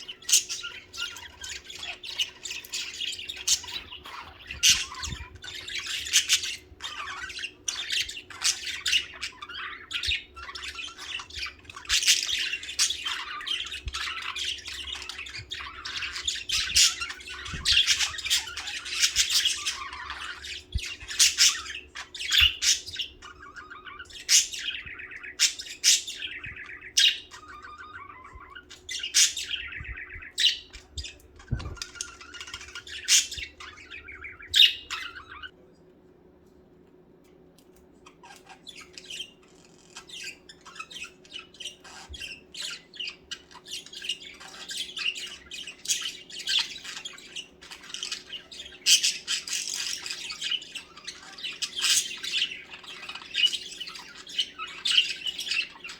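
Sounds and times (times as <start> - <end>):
budgerigars chirping and warbling: 0.0 - 35.6, 38.0 - 55.9.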